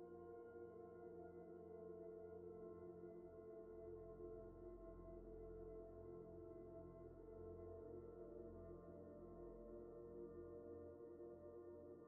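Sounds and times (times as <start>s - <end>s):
soft ambient pad music: 0.0s - 12.0s.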